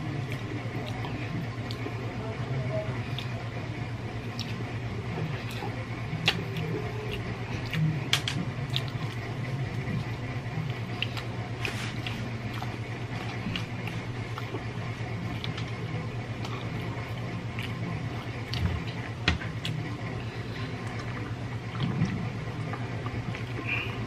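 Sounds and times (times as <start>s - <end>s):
chewing chicken: 0.0s - 24.0s
steady low hum: 0.0s - 24.0s.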